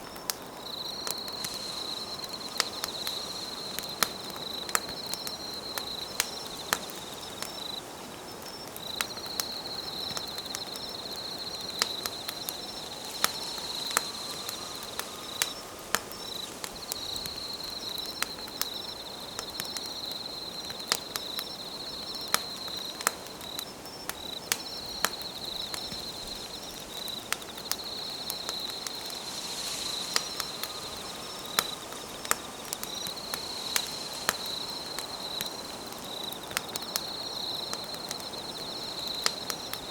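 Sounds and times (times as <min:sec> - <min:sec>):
campfire crackling and popping: 0:00.0 - 0:39.9
insect trill: 0:00.0 - 0:39.9.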